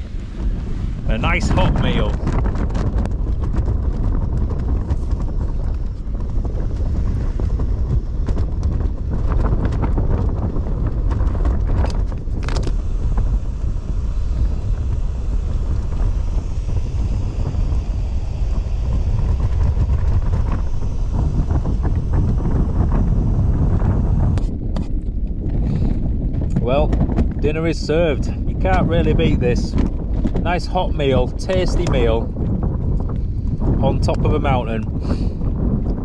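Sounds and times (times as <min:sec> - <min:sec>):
gas stove roaring: 0:00.0 - 0:36.0
storm wind on tent: 0:00.0 - 0:36.0.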